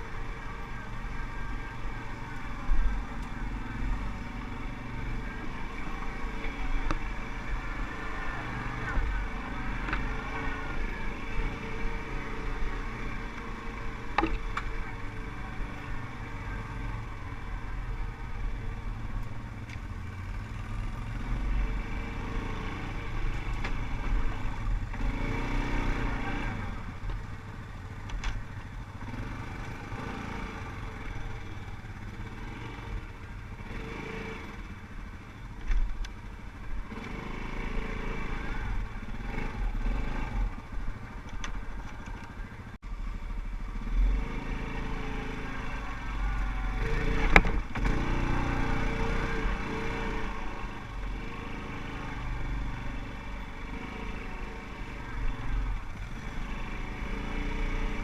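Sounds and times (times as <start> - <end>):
quad bike engine revving: 0.0 - 27.3, 28.2 - 42.4, 43.5 - 58.0.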